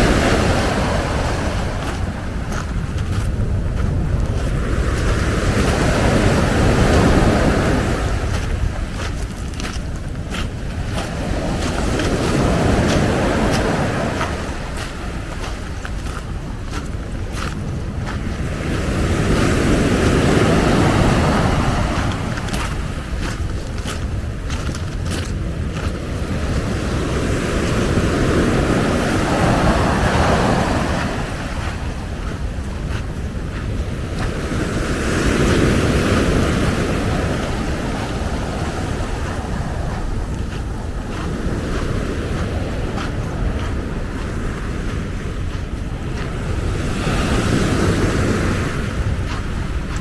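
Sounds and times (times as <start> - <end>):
ocean surf: 0.0 - 50.0
waves washing on beach: 0.0 - 50.0
wind rumbling on microphone: 0.0 - 50.0.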